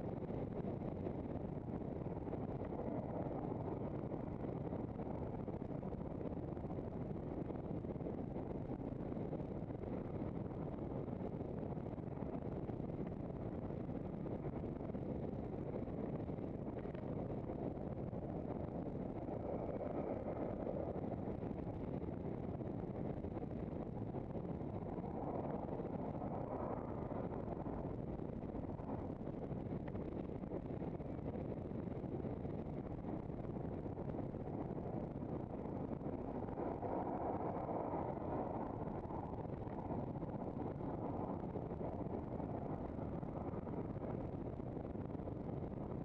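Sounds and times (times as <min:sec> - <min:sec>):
wind rush on microphone: 0:00.0 - 0:46.0.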